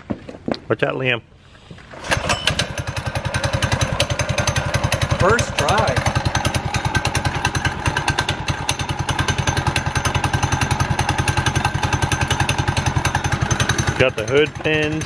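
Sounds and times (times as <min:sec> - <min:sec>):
small gas engine idling: 0:01.7 - 0:15.0.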